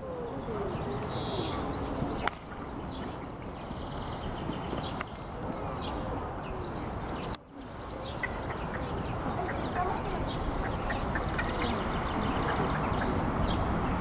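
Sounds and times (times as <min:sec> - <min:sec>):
birds chirping: 0:00.0 - 0:14.0
steady outdoor hiss: 0:00.0 - 0:14.0.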